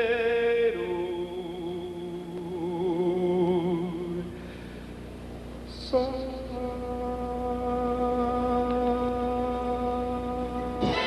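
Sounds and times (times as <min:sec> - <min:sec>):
man singing with vibrato: 0:00.0 - 0:04.4, 0:05.7 - 0:11.0.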